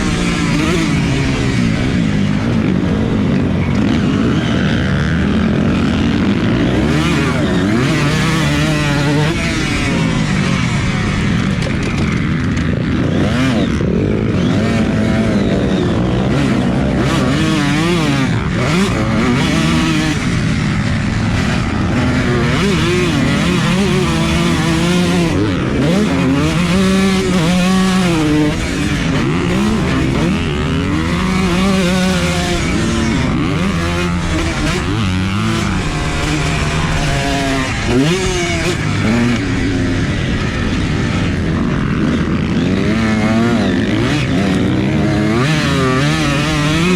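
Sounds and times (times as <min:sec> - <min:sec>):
dirt bike engine revving: 0:00.0 - 0:46.9
steady rushing noise: 0:00.0 - 0:46.9.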